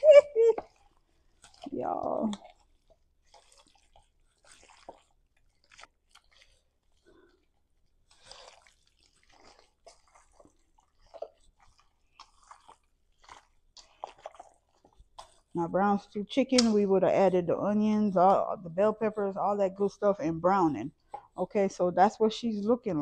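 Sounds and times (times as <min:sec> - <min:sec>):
raw meat worked by hand: 0:00.0 - 0:23.0.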